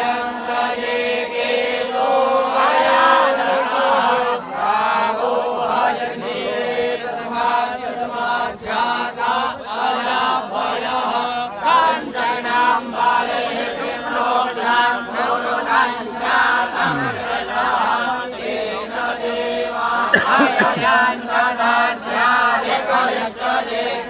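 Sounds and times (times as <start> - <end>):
group chanting in unison: 0.0 - 24.0.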